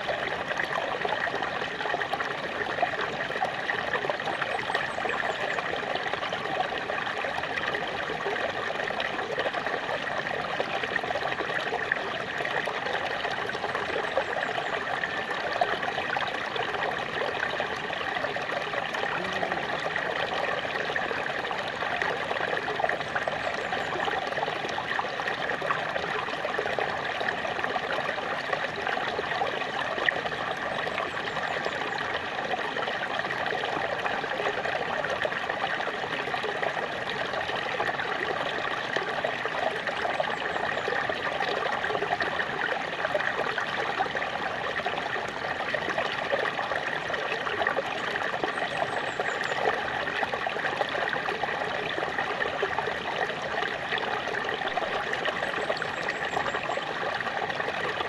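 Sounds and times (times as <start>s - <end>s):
small waterfall splashing: 0.0s - 58.0s.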